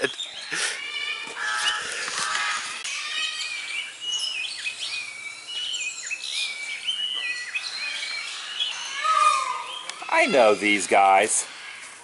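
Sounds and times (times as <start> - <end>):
parrots and aviary birds calling: 0.0 - 12.0.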